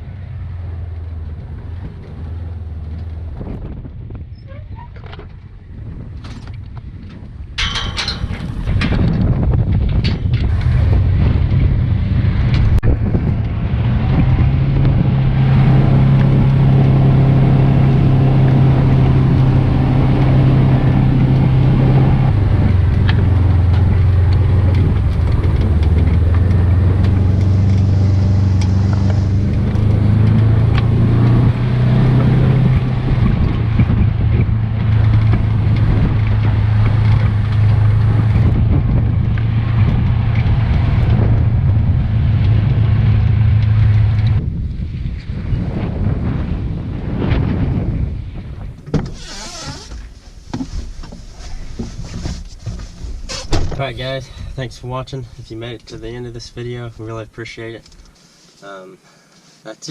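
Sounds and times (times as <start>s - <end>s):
vehicle engine running: 0.0s - 3.9s, 8.0s - 58.1s.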